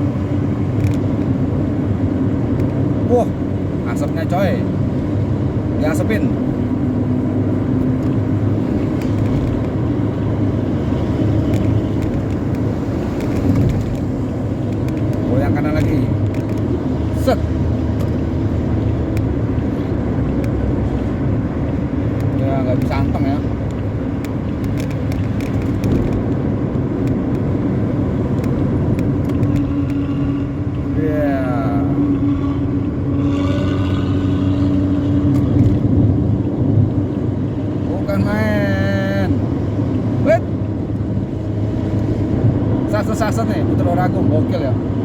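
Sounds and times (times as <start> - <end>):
bus exhaust deep rumble: 0.0 - 45.0
road noise: 0.0 - 45.0.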